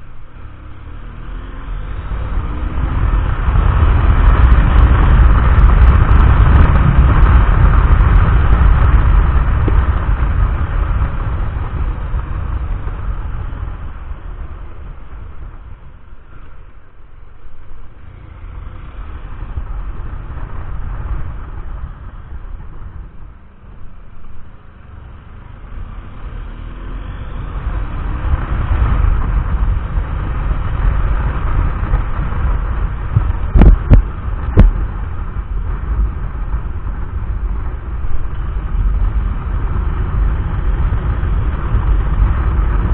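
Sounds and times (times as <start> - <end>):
motorcycle engine: 0.0 - 42.9
wind buffeting microphone: 1.8 - 25.4, 27.4 - 42.9.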